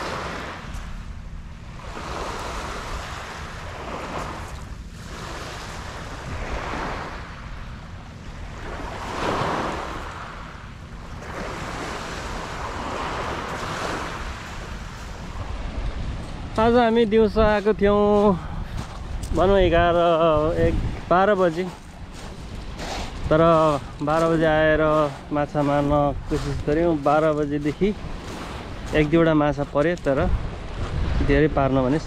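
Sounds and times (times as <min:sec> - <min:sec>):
sea waves washing ashore: 0:00.0 - 0:32.0
wind rumbling on microphone: 0:00.0 - 0:32.0.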